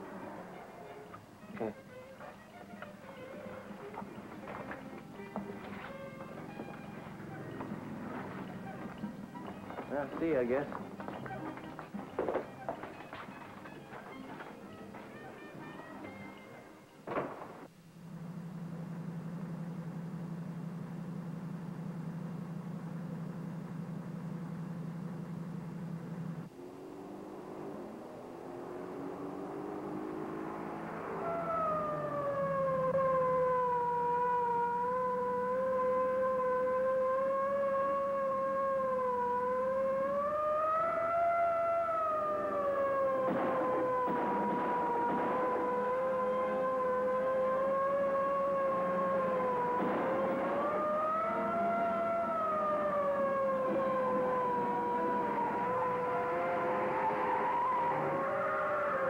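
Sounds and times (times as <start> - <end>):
car engine hum: 0.0 - 59.0
police siren: 0.0 - 59.0.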